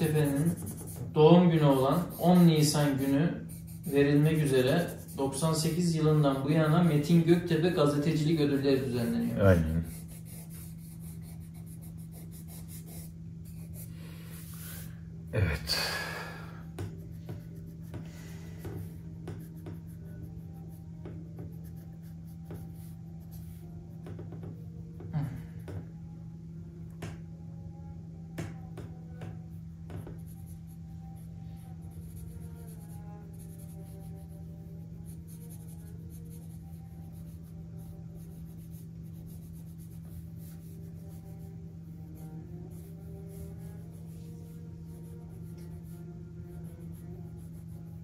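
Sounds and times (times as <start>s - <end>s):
pencil strokes on paper: 0.0s - 15.0s, 16.6s - 24.6s, 28.8s - 48.0s
steady low hum: 0.0s - 48.0s.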